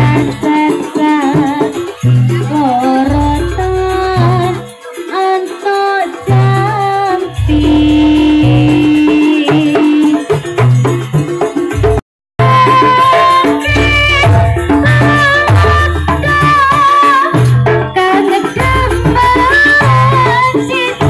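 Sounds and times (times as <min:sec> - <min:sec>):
person singing: 0:00.0 - 0:10.4, 0:12.4 - 0:21.0
gamelan-style ensemble music: 0:00.0 - 0:21.0.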